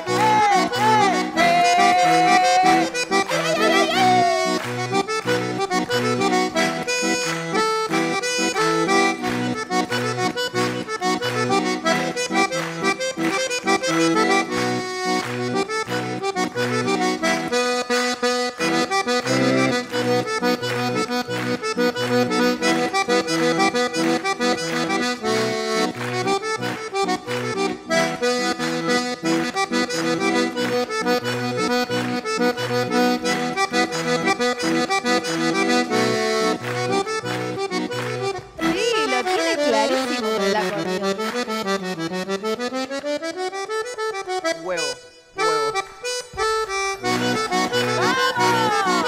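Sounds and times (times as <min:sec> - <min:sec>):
button accordion playing lively tune: 0:00.0 - 0:49.0.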